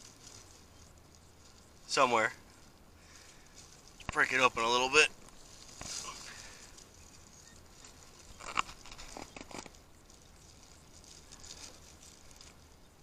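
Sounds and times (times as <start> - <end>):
short crackles: 0.0 - 12.7
soil crumbling and rustling: 0.0 - 13.0
soil crunch: 0.0 - 13.0.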